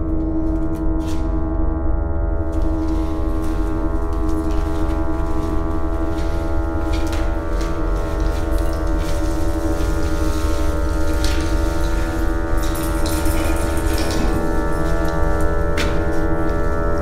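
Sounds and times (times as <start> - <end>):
droning horror film score: 0.0 - 17.0.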